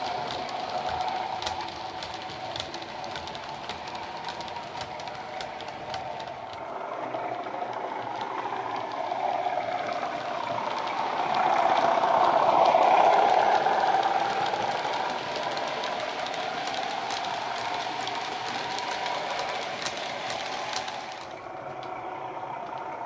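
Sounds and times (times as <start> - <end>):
wheels clicking over rail joints: 0.0 - 23.0.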